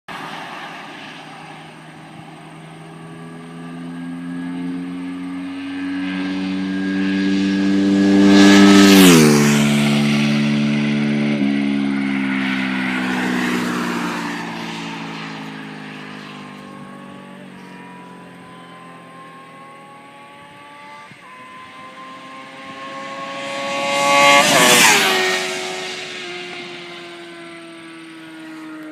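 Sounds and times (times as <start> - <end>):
motorcycles accelerating past: 0.1 - 28.9
motorcycle upshifts: 0.2 - 28.9.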